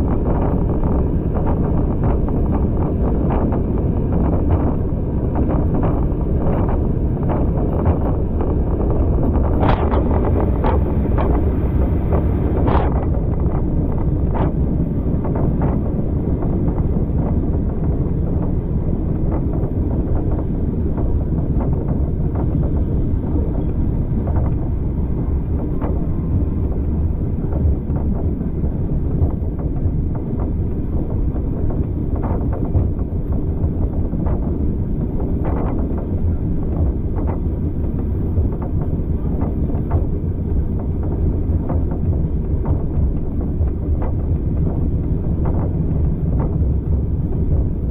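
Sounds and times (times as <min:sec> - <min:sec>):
train carriage rumbling on track: 0:00.0 - 0:47.9
wind buffeting microphone: 0:00.0 - 0:47.9.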